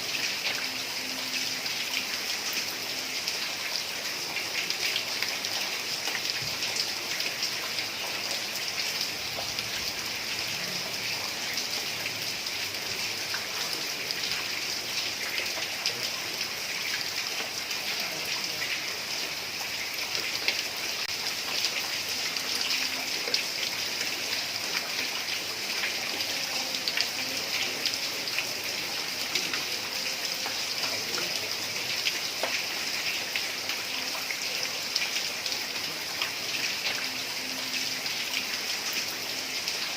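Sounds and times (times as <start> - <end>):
heavy rain on a tiled roof: 0.0 - 39.9.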